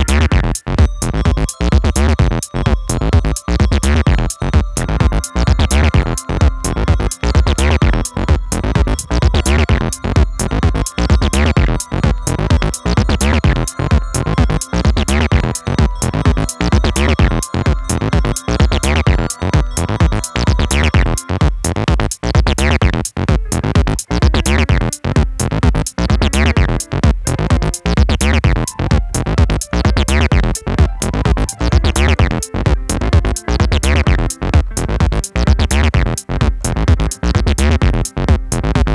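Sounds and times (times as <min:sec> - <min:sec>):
drum-machine beat: 0:00.0 - 0:38.9
synth bass: 0:00.0 - 0:38.9.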